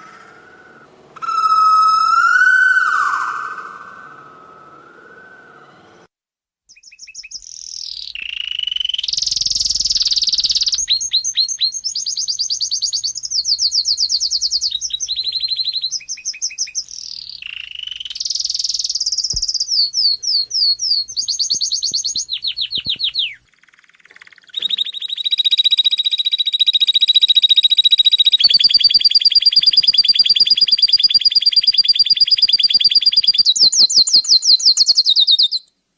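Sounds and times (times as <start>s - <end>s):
songbird trilling and chirping: 6.7s - 35.7s.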